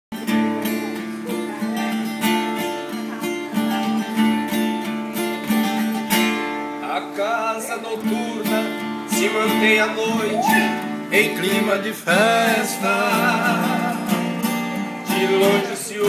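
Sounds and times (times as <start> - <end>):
strummed acoustic guitar music: 0.1 - 16.0.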